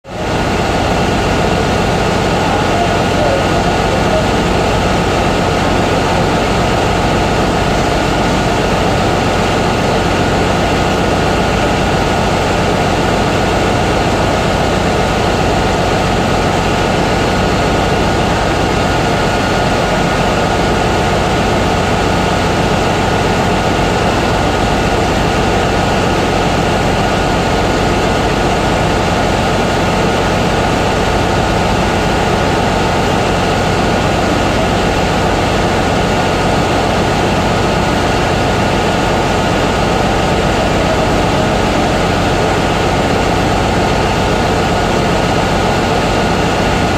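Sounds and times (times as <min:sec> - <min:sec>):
engine-room machinery drone: 0:00.0 - 0:46.9.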